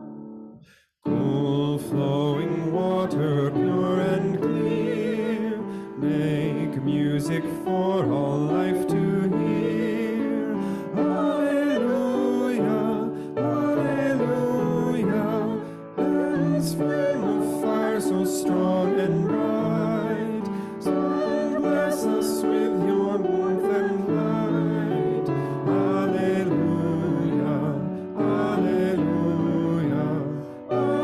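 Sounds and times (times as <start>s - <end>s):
piano accompaniment: 0.0s - 31.0s
person singing a hymn: 1.1s - 31.0s.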